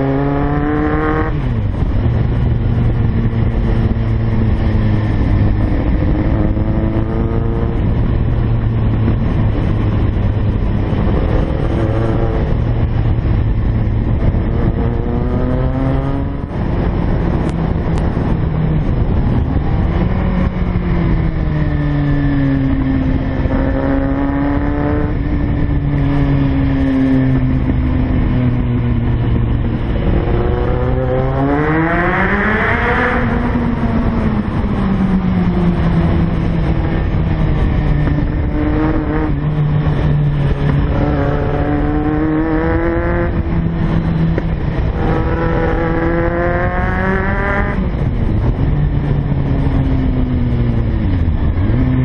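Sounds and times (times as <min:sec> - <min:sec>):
motorcycle engine revving: 0:00.0 - 0:52.0
wind on microphone: 0:00.0 - 0:52.0.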